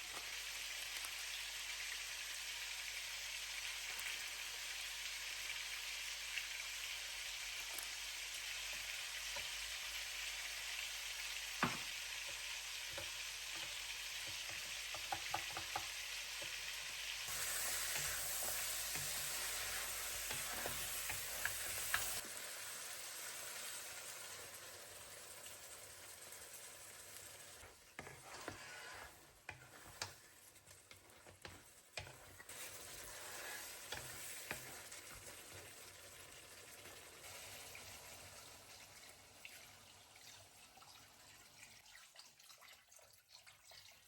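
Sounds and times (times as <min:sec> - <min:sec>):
food sizzling in a pan: 0:00.0 - 0:41.8.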